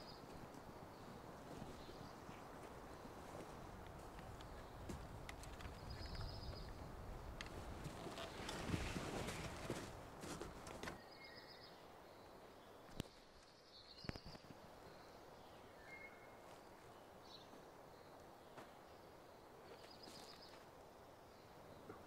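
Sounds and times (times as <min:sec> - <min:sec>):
faint bird chirps and trills: 0:00.0 - 0:22.0.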